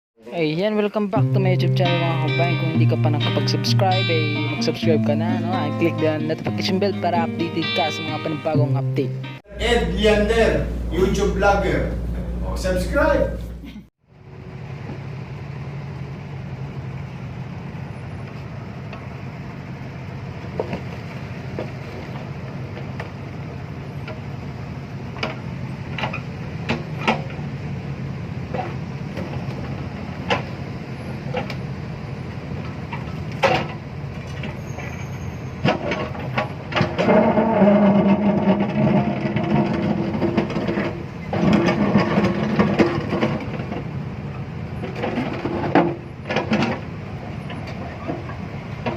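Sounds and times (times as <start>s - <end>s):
large engine running: 9.5s - 48.9s.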